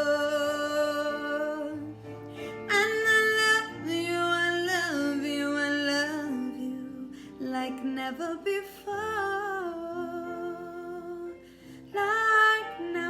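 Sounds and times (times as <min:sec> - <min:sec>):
karaoke backing track with guitar: 0:00.0 - 0:13.0
woman singing a ballad: 0:00.0 - 0:13.0.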